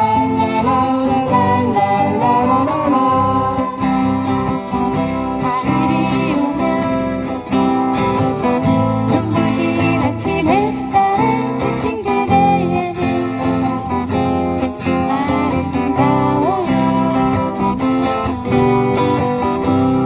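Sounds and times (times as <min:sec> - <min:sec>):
acoustic guitars strummed: 0:00.0 - 0:20.0
people singing folk song: 0:00.0 - 0:20.0.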